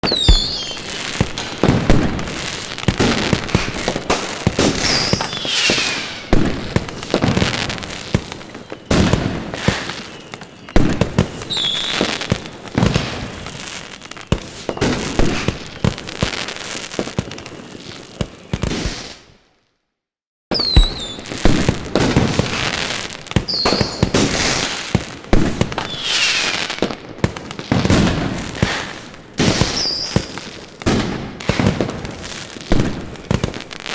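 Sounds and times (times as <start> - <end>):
distant fireworks bangs: 0.0 - 16.2, 20.5 - 33.9
fireworks crackling: 0.0 - 19.3, 20.5 - 33.9
fireworks whistles: 0.0 - 19.3, 20.5 - 33.9.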